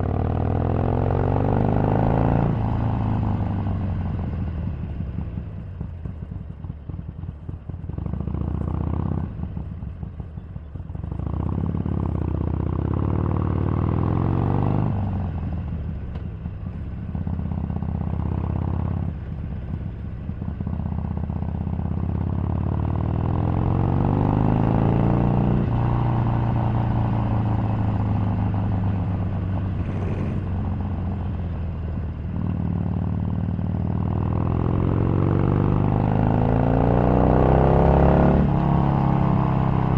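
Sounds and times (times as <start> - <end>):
motorcycle engine accelerating: 0.0 - 10.4, 11.1 - 39.9.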